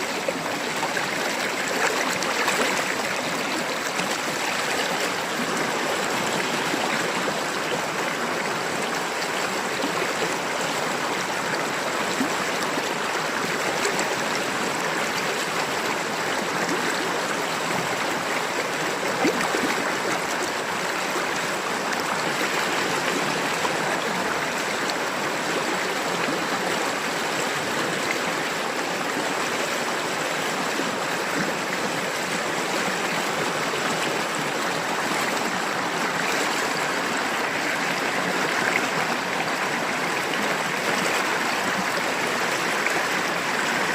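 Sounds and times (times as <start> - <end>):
river babbling over stones: 0.0 - 43.9.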